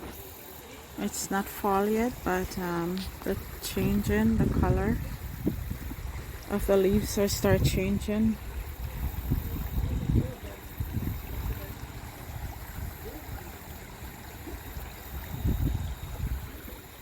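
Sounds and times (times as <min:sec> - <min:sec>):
creek water running: 0:00.0 - 0:17.0
wind gusts on microphone: 0:01.0 - 0:17.0.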